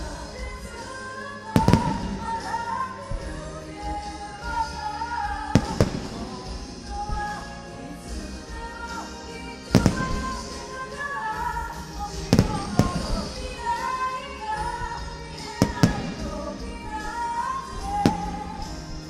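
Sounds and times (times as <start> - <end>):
woman singing to music: 0.0 - 19.0
fireworks bursting: 0.4 - 19.0.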